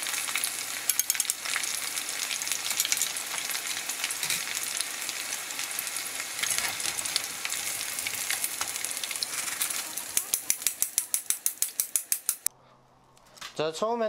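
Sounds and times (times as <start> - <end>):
meat deep-frying in oil: 0.0 - 12.4.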